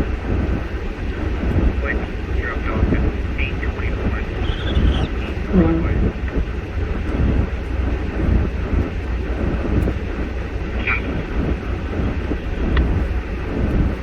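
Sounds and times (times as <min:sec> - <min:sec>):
vehicle driving rumble: 0:00.0 - 0:14.0.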